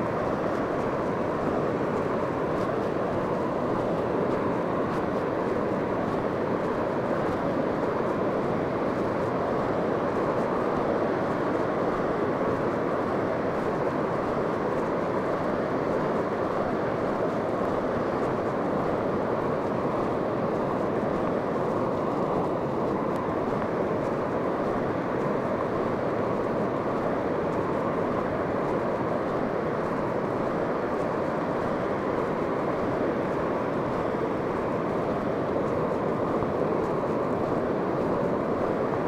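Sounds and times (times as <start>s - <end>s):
ocean surf on shore: 0.0s - 39.0s
wind: 0.0s - 39.0s.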